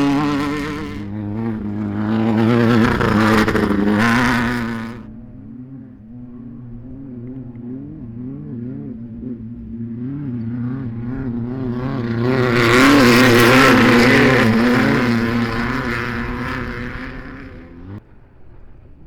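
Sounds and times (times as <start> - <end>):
racing engines revving: 0.0 - 19.0.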